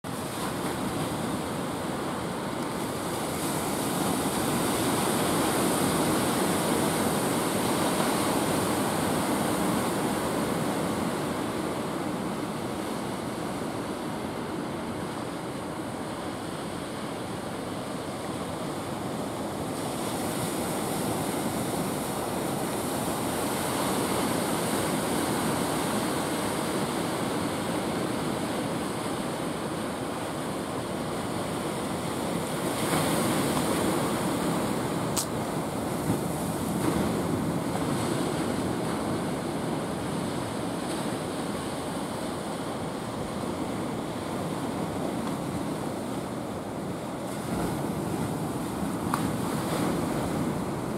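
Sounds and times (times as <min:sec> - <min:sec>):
ocean surf breaking on shore: 0:00.1 - 0:50.9.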